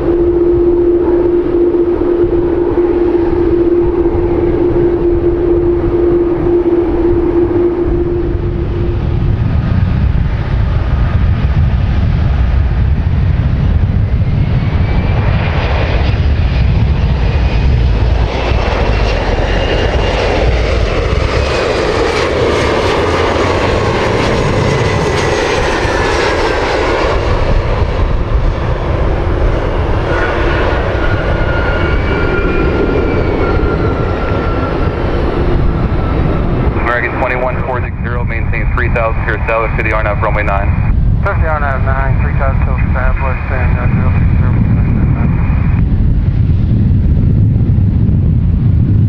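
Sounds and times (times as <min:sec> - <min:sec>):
jet airliner passing: 0:00.0 - 0:49.0.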